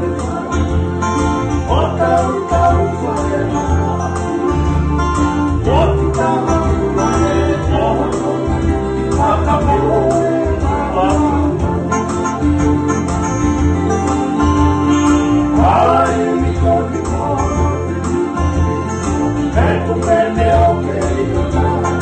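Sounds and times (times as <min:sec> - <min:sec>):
men singing: 0:00.0 - 0:12.1, 0:14.8 - 0:22.0
electronic keyboard: 0:00.0 - 0:22.0
strummed ukulele and guitars: 0:00.0 - 0:22.0.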